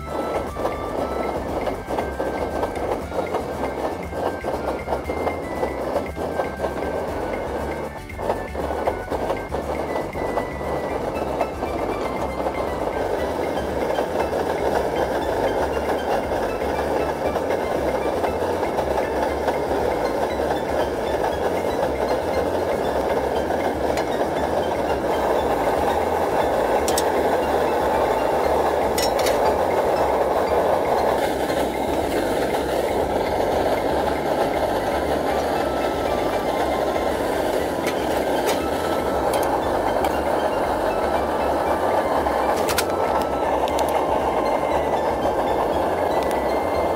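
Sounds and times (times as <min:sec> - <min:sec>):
camp stove burning: 0:00.0 - 0:46.9.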